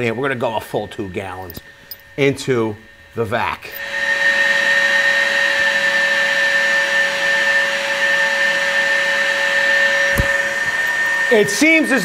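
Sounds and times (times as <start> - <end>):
vacuum motor straining whine: 0.0 - 12.0.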